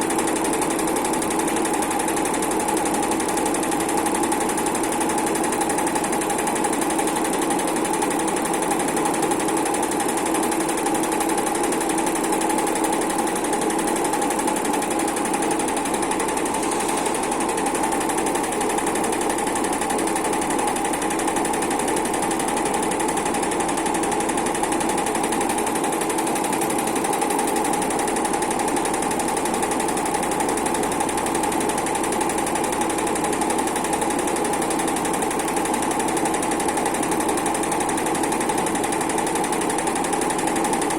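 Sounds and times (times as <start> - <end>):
sewing machine needle rattle: 0.1 - 40.9.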